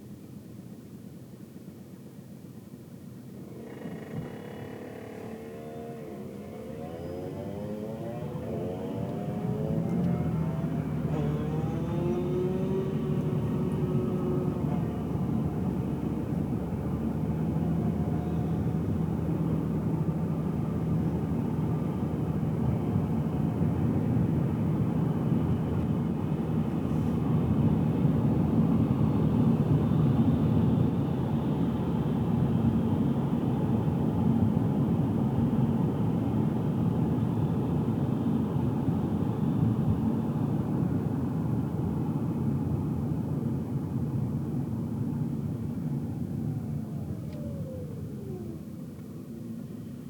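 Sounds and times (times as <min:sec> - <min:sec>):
engine and tyre rumble: 0:00.0 - 0:50.0
faint engine hum: 0:00.0 - 0:50.0.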